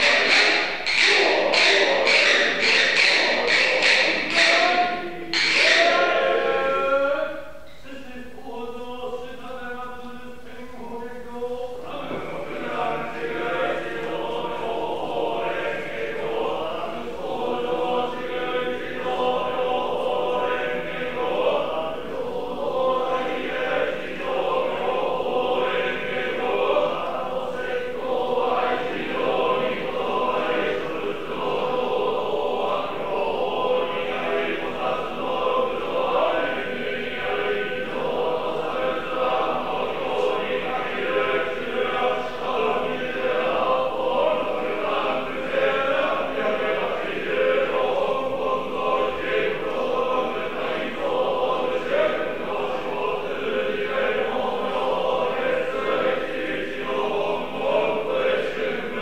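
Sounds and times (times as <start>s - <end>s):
monks chanting together: 0.0s - 59.0s.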